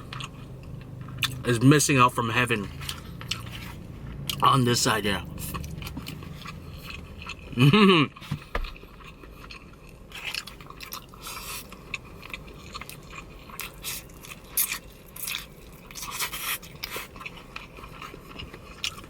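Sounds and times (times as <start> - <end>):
chewing food with wet crunches: 0.0 - 19.0.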